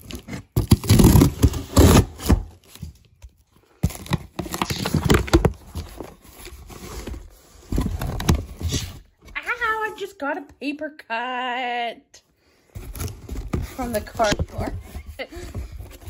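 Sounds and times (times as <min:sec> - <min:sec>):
cardboard flaps and contents rustling: 0:00.0 - 0:09.9, 0:12.7 - 0:16.0.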